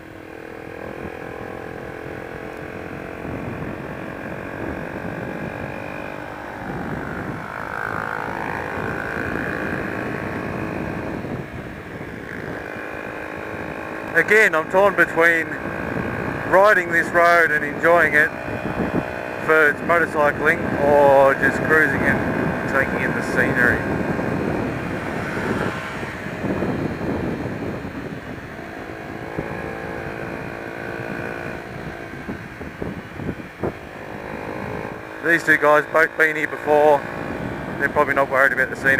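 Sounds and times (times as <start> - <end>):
motorcycle engine running: 0.0 - 38.9
road noise: 0.0 - 38.9
wind: 0.0 - 38.9.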